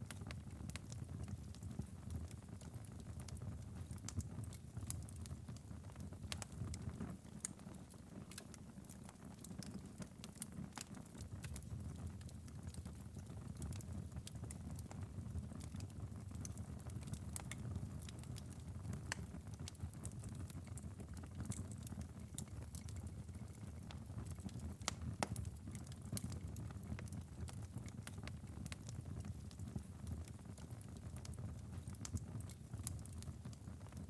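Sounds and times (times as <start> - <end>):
wood fire crackling: 0.1 - 34.0.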